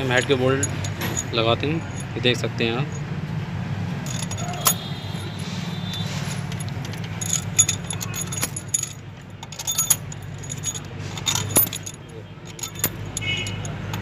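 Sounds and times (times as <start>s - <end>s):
metal bolts clinking: 0.0s - 3.1s, 4.0s - 14.0s.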